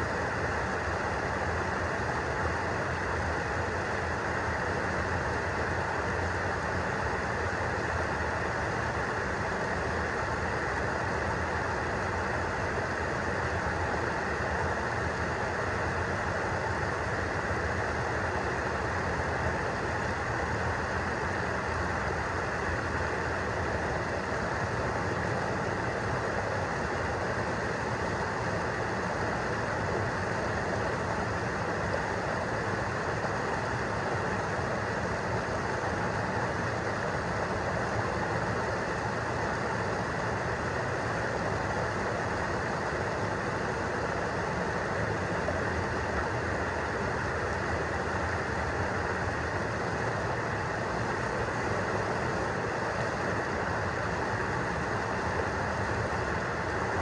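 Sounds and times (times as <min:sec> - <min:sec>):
small waterfall rushing: 0:00.1 - 0:57.0.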